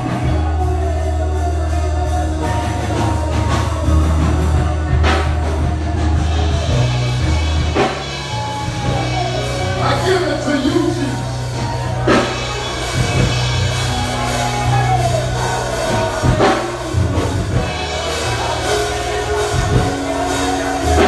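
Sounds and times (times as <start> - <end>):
drum and cymbal hits: 0.0 - 21.0
held keyboard chords: 0.0 - 21.0
person singing: 0.0 - 21.0
sustained bass notes: 0.0 - 21.0.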